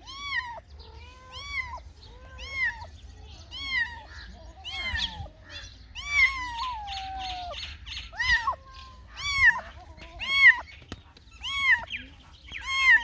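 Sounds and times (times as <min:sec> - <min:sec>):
cat meowing: 0:00.0 - 0:02.9, 0:03.5 - 0:10.6, 0:11.4 - 0:11.9, 0:12.6 - 0:13.0.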